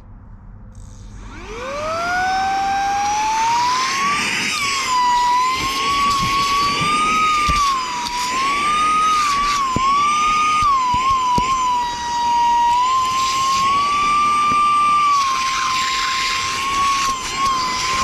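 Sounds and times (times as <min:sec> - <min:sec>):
vacuum cleaner motor whine: 0:00.8 - 0:18.0.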